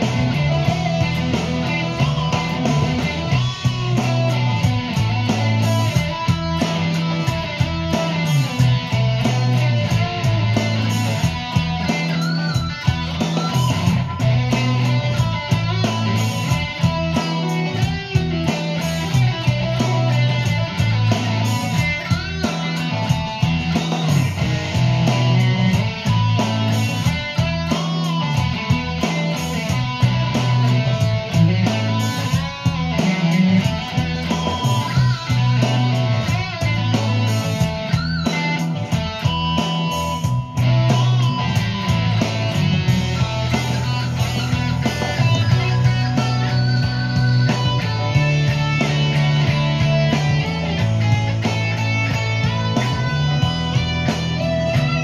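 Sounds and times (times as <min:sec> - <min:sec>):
electric guitar rock riff: 0:00.0 - 0:55.0
low bass line: 0:00.0 - 0:55.0.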